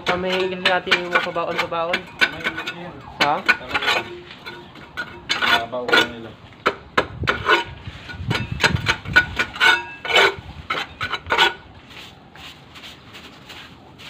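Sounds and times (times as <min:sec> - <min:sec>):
debris scraping on concrete: 0:00.0 - 0:06.4, 0:07.3 - 0:14.0.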